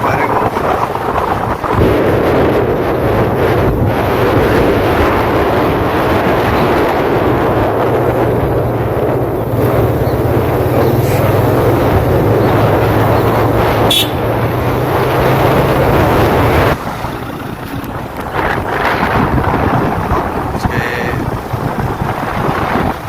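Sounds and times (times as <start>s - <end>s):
motorcycle engine running: 0.0s - 23.0s
road noise: 0.0s - 23.0s
wind on microphone: 0.0s - 23.0s.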